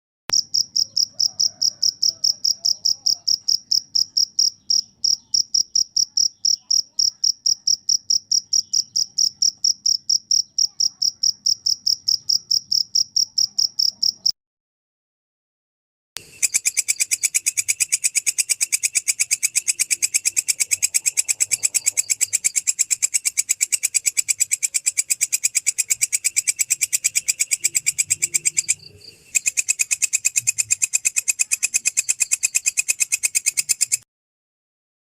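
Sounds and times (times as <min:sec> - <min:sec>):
katydid raspy chirps: 0:00.3 - 0:14.3, 0:16.2 - 0:34.0.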